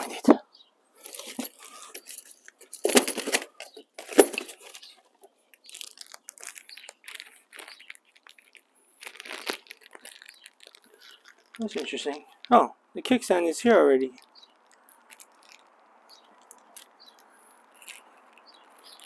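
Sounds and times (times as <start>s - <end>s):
plastic and cardboard rustling: 0.0s - 0.4s, 1.0s - 12.7s, 14.1s - 19.0s.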